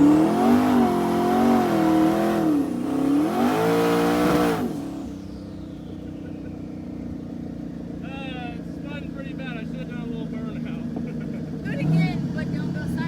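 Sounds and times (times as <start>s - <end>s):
car engine revving: 0.0s - 8.0s, 8.6s - 13.0s.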